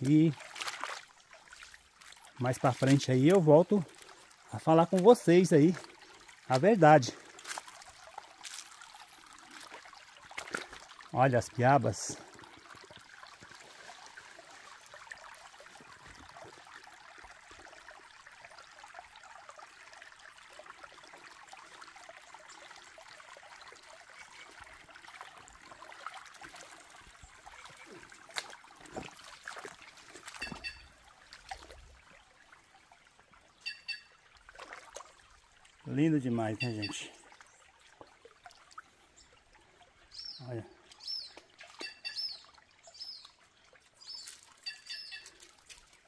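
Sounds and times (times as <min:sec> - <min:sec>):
creek water babbling over stones: 0:00.0 - 0:46.0.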